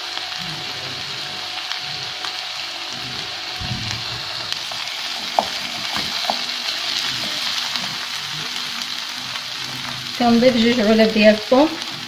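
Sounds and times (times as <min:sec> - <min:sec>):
sauce sizzling in frying pan: 0:00.0 - 0:12.0.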